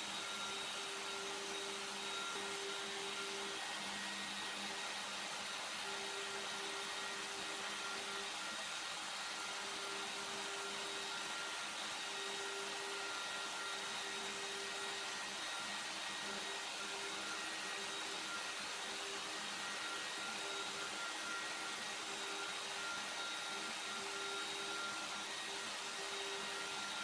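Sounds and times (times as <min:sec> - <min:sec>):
router motor whining: 0:00.0 - 0:27.0.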